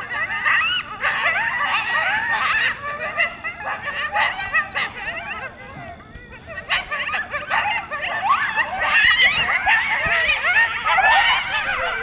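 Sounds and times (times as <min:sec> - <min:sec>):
coyotes yipping and howling: 0:00.0 - 0:12.0.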